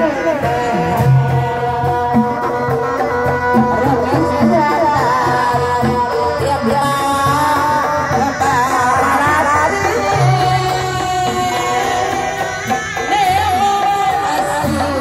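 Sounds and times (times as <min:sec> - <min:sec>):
hand drums beating: 0:00.0 - 0:15.0
ornamented melody: 0:00.0 - 0:15.0
person singing: 0:00.0 - 0:15.0.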